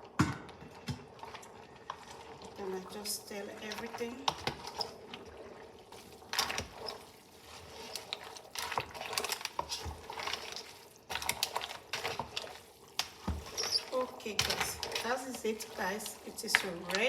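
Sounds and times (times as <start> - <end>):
wet sloshing: 0.6 - 17.0
utensil scraping and clinking pot: 1.3 - 5.2, 6.0 - 17.0.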